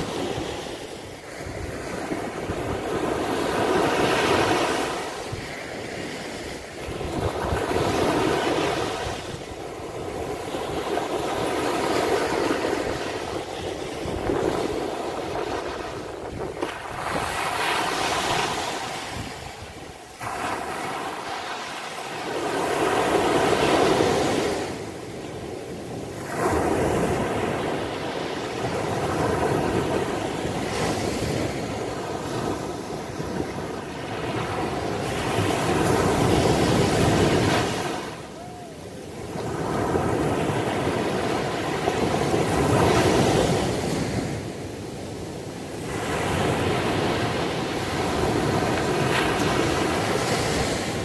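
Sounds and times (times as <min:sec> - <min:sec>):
surf breaking on a beach: 0:00.0 - 0:51.0.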